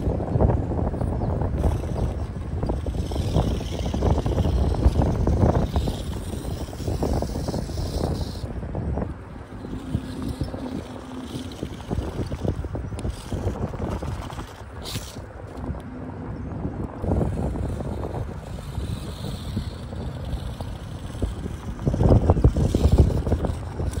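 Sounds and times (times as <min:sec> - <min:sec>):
wind buffeting microphone: 0:00.0 - 0:24.0
small toy car motor whine: 0:01.0 - 0:15.8, 0:17.0 - 0:24.0.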